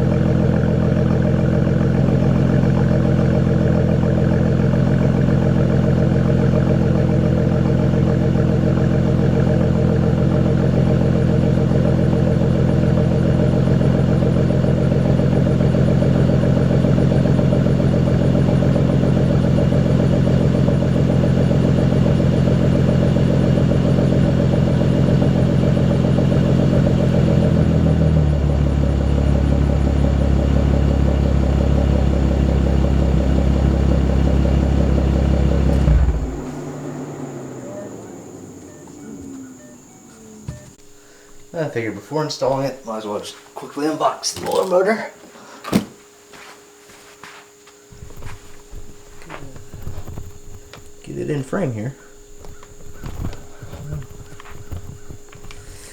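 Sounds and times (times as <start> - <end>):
car engine idling: 0.0 - 44.6, 47.8 - 55.9.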